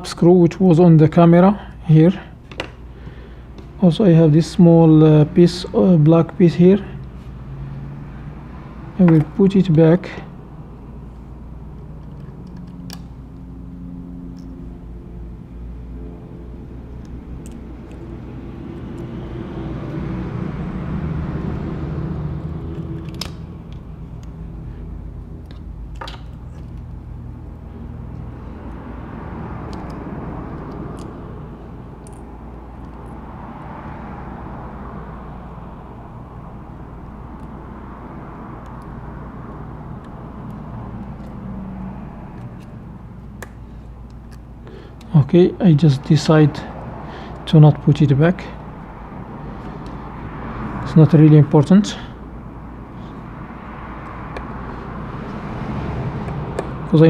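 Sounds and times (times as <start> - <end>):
steady low hum: 0.0 - 57.0
vehicles passing: 0.0 - 57.0.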